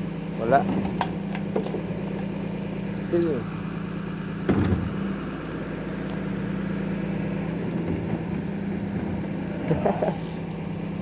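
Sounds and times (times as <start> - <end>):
garbage truck engine idling: 0.0 - 11.0.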